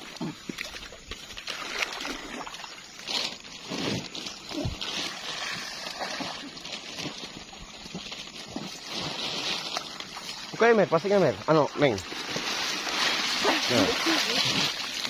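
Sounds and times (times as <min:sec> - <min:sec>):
pond water splashing: 0:00.0 - 0:15.0.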